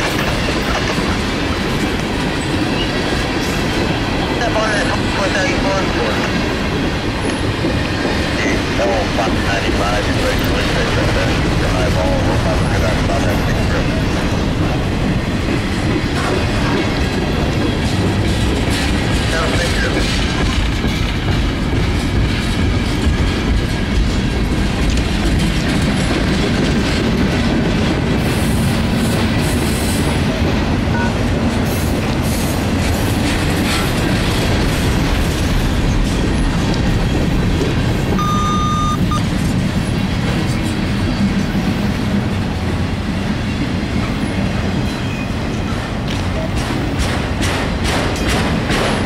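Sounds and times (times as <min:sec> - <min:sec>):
freight train wheels rumbling on rail: 0:00.0 - 0:49.0.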